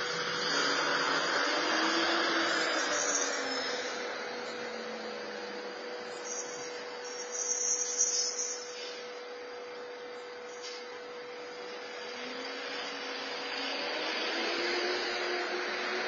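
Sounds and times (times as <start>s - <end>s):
faint constant hum: 0.0s - 14.0s
high-pitched buzz: 0.0s - 16.0s.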